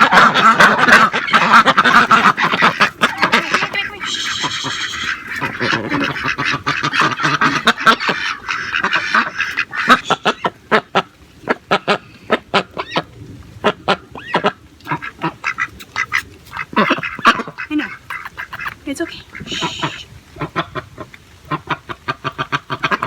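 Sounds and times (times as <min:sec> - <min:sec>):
ducks quacking and honking: 0:00.0 - 0:23.0.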